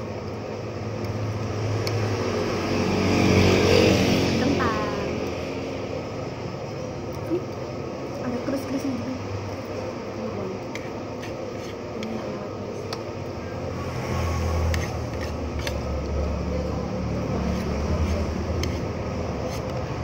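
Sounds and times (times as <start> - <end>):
steady background noise: 0.0 - 20.0
low engine rumble of passing vehicle: 0.6 - 10.4, 13.2 - 20.0.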